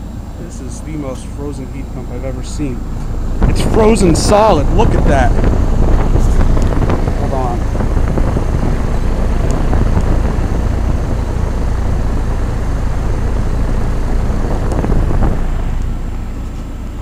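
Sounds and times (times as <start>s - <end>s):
air rushing through fan grille: 0.0s - 17.0s
heat pump fan and compressor rumble: 0.0s - 17.0s.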